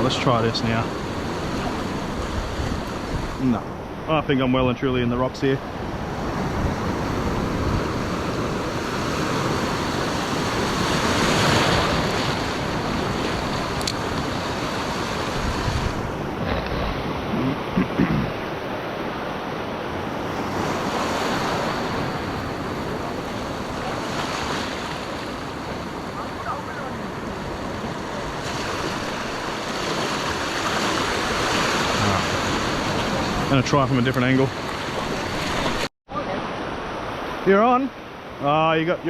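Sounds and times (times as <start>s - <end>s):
wind buffeting microphone: 0.0s - 5.0s, 5.6s - 35.9s
ocean waves breaking on rocks: 0.0s - 39.0s.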